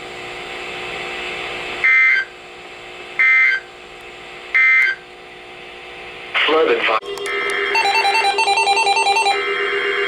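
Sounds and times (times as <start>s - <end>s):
broadcast hum: 0.5s - 10.0s.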